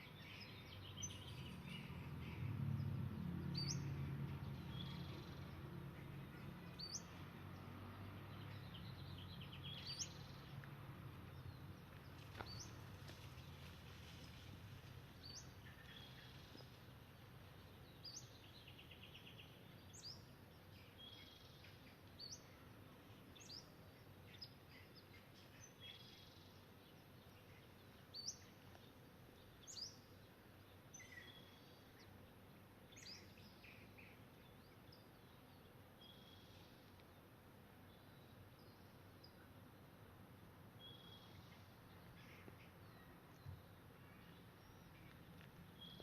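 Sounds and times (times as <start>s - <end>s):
faint songbirds chirping: 0.0s - 46.0s.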